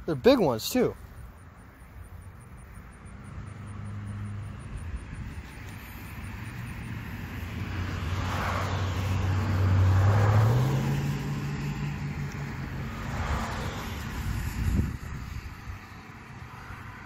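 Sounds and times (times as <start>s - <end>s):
vehicles passing: 0.0s - 17.0s
low engine hum: 1.6s - 17.0s.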